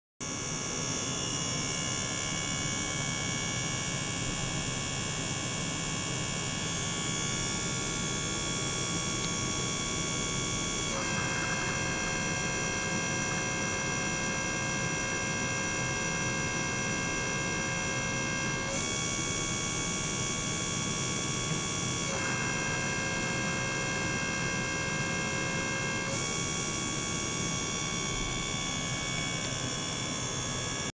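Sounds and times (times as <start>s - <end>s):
electric pump humming and whining: 0.2s - 30.9s.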